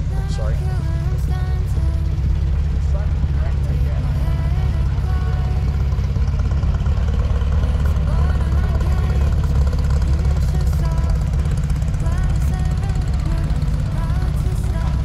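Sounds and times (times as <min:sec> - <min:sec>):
people talking: 0:00.0 - 0:06.2, 0:07.6 - 0:15.0
car engine low rumble: 0:00.0 - 0:15.0.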